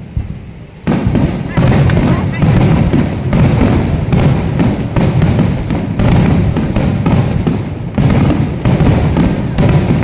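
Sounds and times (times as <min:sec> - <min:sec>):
fireworks barrage bangs: 0:00.0 - 0:10.0.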